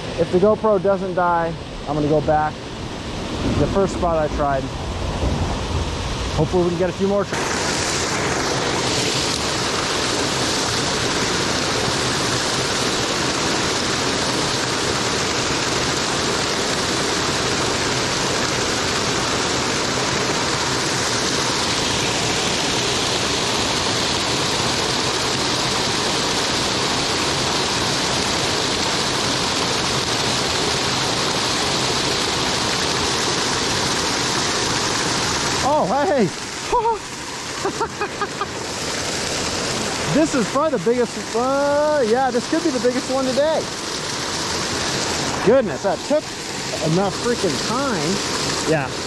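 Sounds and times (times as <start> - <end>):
water pouring over spillway: 0.0 - 49.0.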